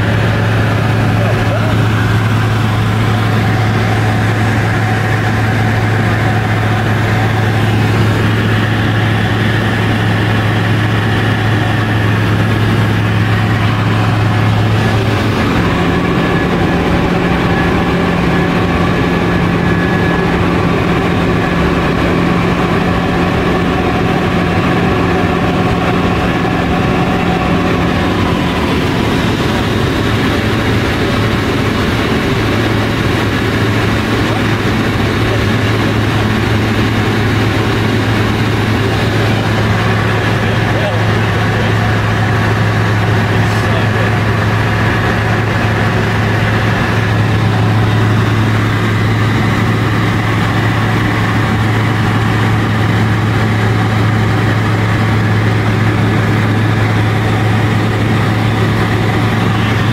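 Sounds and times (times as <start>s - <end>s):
aircraft engine and propeller drone: 0.0s - 59.9s.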